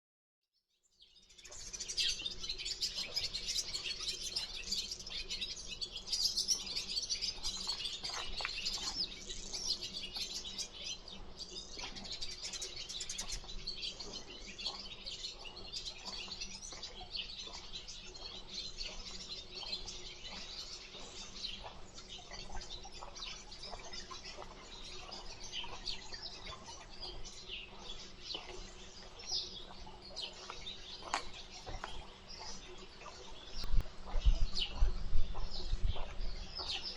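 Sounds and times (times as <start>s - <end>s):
songbirds chirping chorus: 0.7s - 36.9s.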